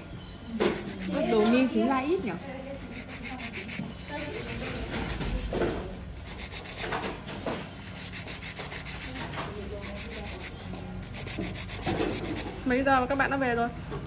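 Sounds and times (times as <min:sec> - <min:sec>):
nail file scraping nails: 0:00.0 - 0:12.6.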